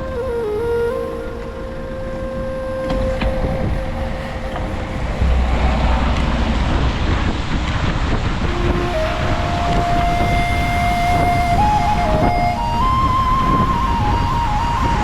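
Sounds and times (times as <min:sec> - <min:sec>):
wind rumble on microphone: 0:00.0 - 0:15.0
held musical note: 0:01.3 - 0:15.0.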